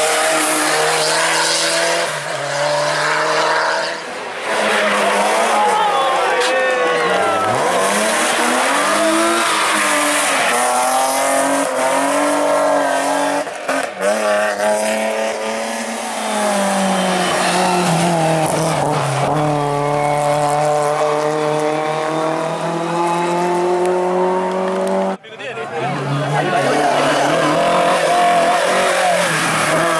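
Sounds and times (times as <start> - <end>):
race car engine revving: 0.0 - 25.2, 25.9 - 29.9.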